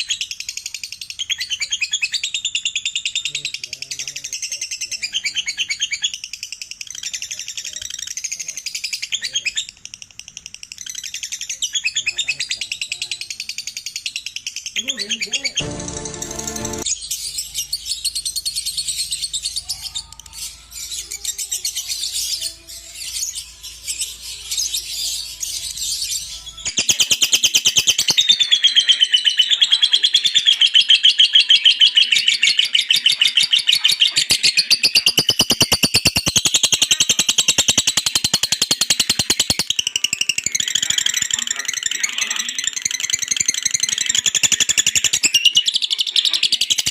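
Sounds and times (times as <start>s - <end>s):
fast rattling bird chatter: 0.0s - 15.6s, 17.9s - 46.9s
bird chirping: 0.0s - 46.9s.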